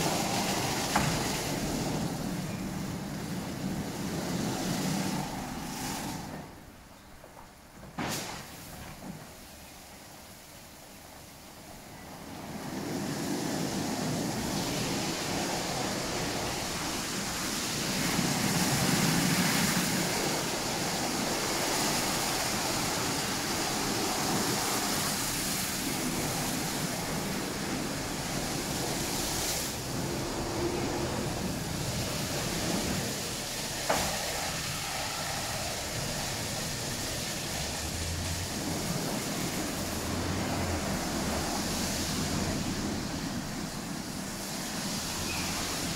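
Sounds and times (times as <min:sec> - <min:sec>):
car wash brushes and water spray: 0:00.0 - 0:07.1, 0:07.8 - 0:45.9.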